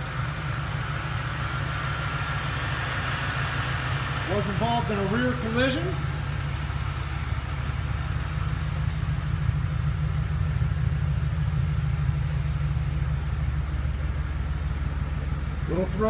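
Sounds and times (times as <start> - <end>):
car engine idling throaty exhaust: 0.0 - 16.0.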